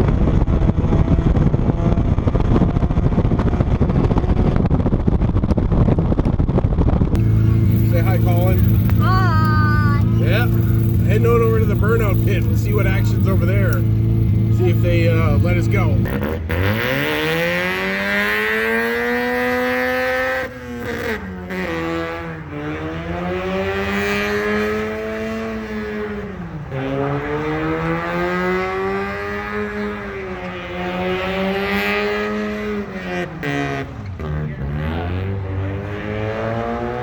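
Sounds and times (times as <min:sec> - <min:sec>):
car engine revving in a burnout: 0:07.2 - 0:37.0.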